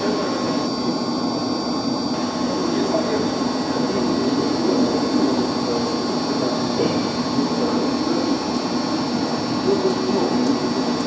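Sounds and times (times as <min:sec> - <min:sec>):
high whining tones: 0:00.0 - 0:11.0
machinery drone: 0:00.0 - 0:11.0.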